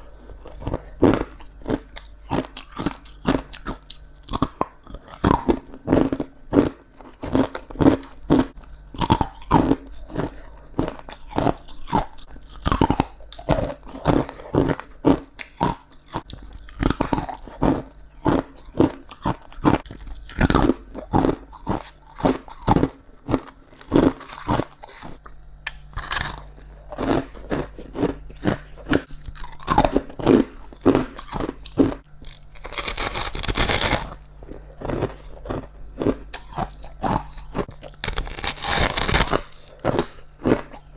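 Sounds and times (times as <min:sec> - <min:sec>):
ice being crunched by teeth: 0:00.0 - 0:40.9.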